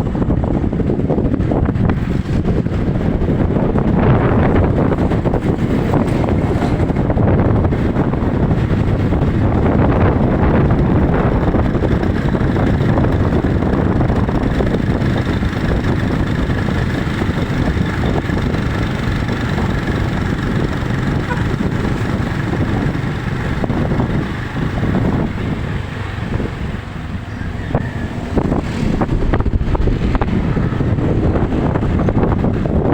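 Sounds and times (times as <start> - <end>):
strong wind on microphone: 0.0 - 32.9.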